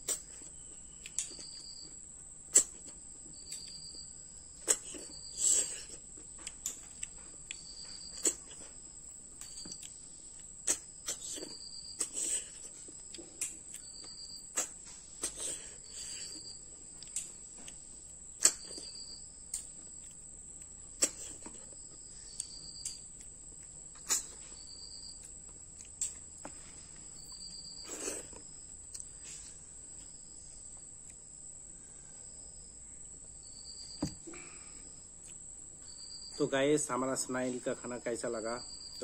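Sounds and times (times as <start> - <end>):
high insect drone: 0.1 - 39.0.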